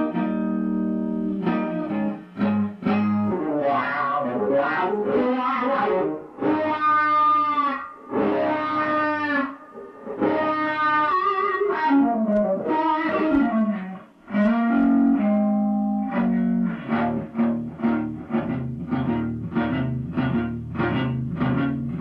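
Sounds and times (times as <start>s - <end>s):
electric guitar through amplifier: 0.0s - 22.0s.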